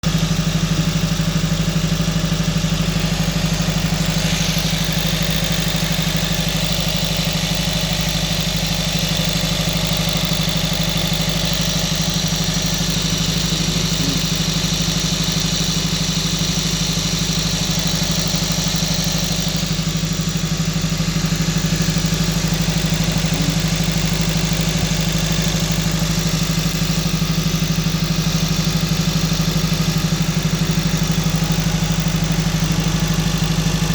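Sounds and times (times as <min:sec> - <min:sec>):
car engine idling with misfire: 0:00.0 - 0:33.9.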